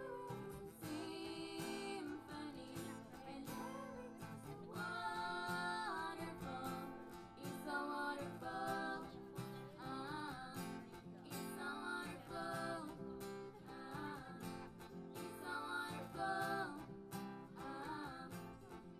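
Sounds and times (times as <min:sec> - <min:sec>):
strummed acoustic guitar: 0:00.0 - 0:18.9.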